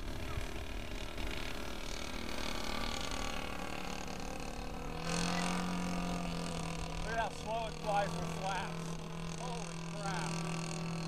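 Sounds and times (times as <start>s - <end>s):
model plane engine droning: 0.0s - 11.0s.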